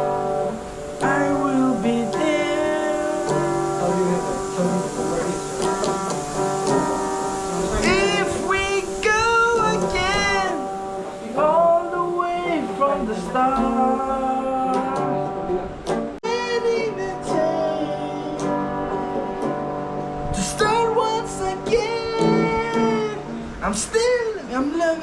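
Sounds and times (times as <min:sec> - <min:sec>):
acoustic guitar: 0:00.0 - 0:25.0
person singing with vibrato: 0:00.0 - 0:25.0.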